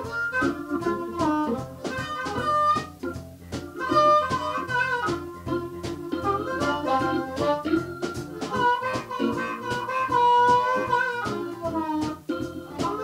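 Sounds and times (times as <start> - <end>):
live band playing jazz-blues: 0.0 - 13.0.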